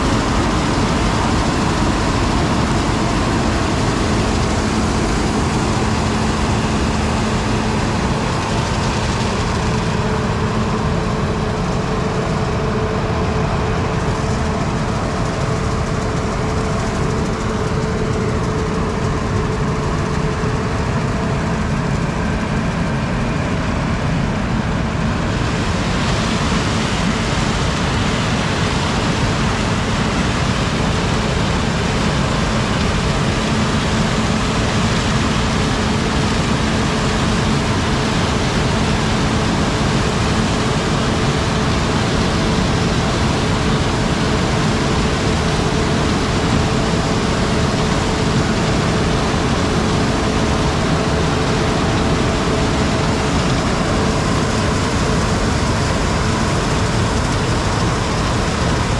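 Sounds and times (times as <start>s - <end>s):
heavy vehicle engine droning: 0.0s - 58.9s.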